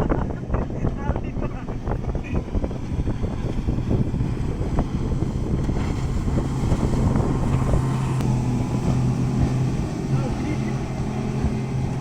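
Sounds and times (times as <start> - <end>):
wind buffeting microphone: 0.0 - 12.0
engine running: 0.1 - 12.0.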